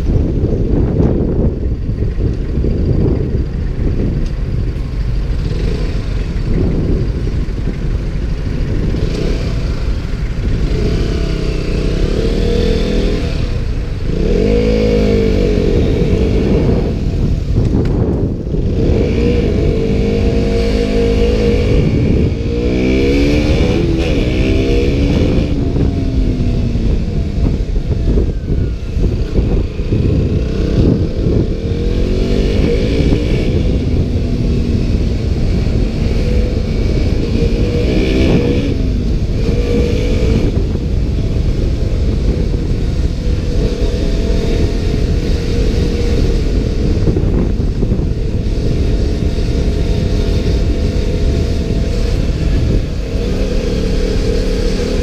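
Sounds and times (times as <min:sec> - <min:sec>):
motorcycle engine accelerating: 0:00.0 - 0:55.0
wind rumble: 0:00.0 - 0:55.0.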